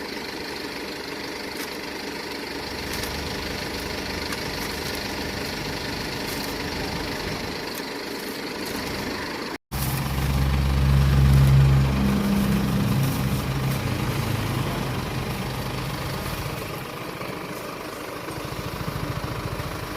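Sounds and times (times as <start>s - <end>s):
low vehicle engine: 0.0s - 19.9s
street background noise: 0.0s - 19.9s.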